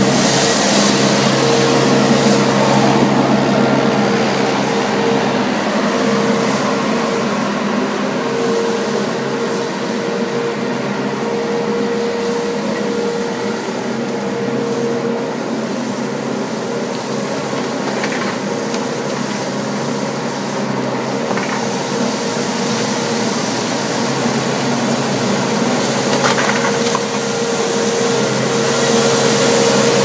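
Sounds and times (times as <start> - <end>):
sweeper engine and fan drone: 0.0 - 30.0.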